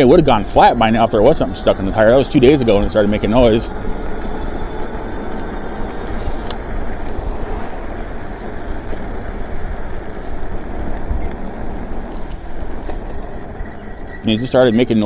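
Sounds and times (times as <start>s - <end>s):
bike tyre noise on pavement: 0.0s - 15.0s
wind rush: 0.0s - 15.0s.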